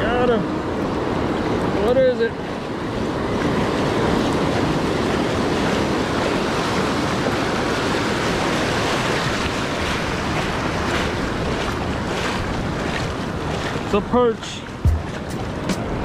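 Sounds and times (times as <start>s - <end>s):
wind buffeting microphone: 0.0s - 13.9s, 14.6s - 16.0s
surf washing over sand: 0.0s - 16.0s.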